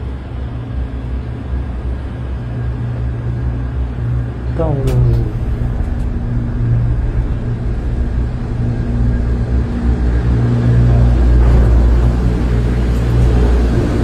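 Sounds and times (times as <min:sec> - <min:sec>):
cable car machinery rumble and hum: 0:00.0 - 0:14.0.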